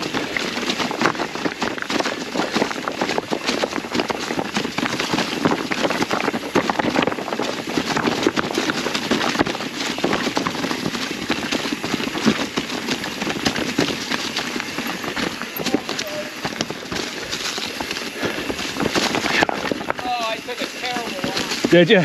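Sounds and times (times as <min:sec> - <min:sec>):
mountain bike rattling over rocks: 0:00.0 - 0:22.0.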